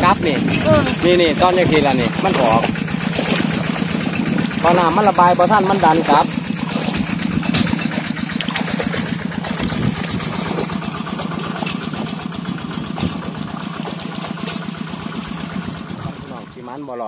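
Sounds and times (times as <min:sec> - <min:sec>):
engine running with rapid pulse: 0:00.0 - 0:17.0.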